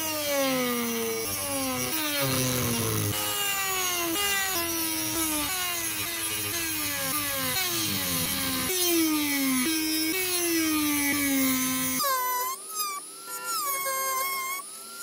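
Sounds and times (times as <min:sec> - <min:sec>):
rotary tool cutting wood: 0:00.0 - 0:12.6.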